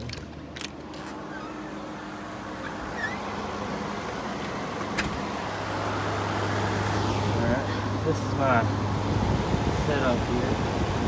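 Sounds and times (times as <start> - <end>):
air conditioner fan running: 0.2 - 11.0.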